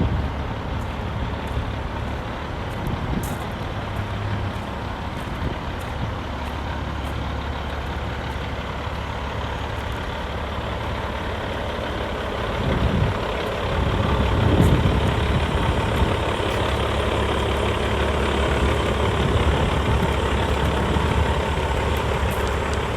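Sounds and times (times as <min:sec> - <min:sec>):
diesel truck engine running: 0:00.0 - 0:22.9.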